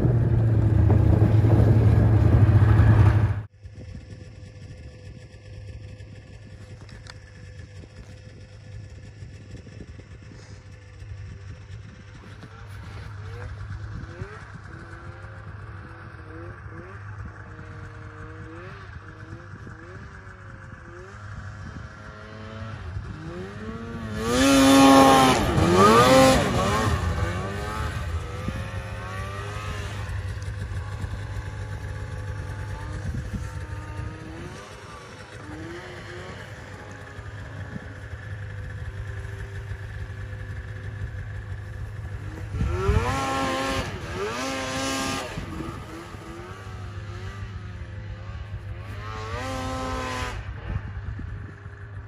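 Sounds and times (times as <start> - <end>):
snowmobile engine revving: 0.0 - 3.5, 11.4 - 50.8.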